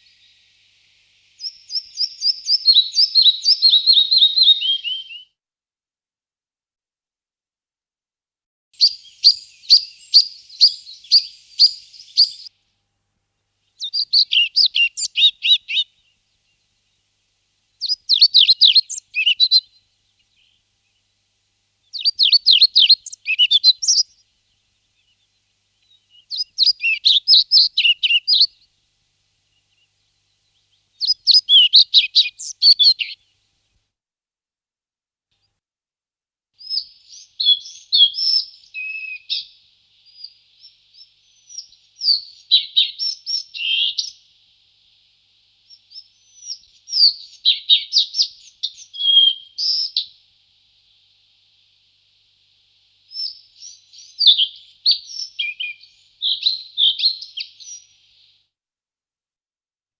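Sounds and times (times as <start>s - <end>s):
songbird singing high phrases: 0.0s - 5.4s, 8.8s - 12.5s, 13.6s - 17.1s, 17.7s - 33.4s, 36.6s - 58.4s.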